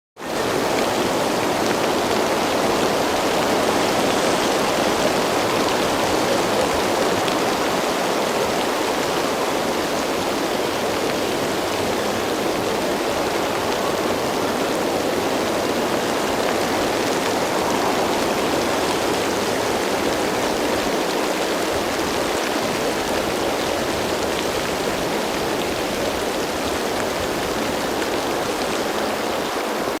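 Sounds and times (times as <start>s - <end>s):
heavy rain falling: 0.2s - 30.0s.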